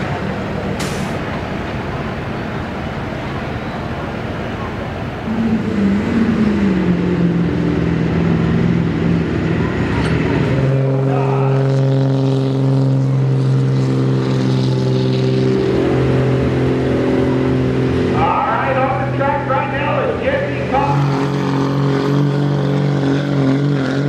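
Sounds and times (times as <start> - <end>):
truck engines under heavy load: 0.0 - 24.0.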